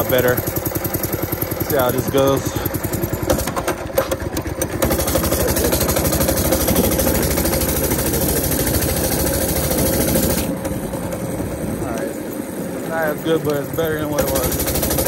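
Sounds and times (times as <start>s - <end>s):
minibike engine running: 0.0s - 15.0s.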